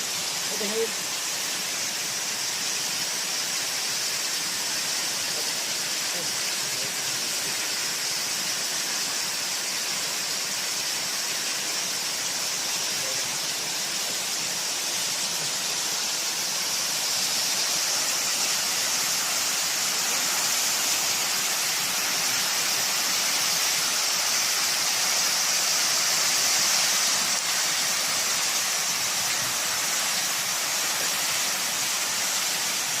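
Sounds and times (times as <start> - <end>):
waterfall rushing and splashing: 0.0 - 33.0.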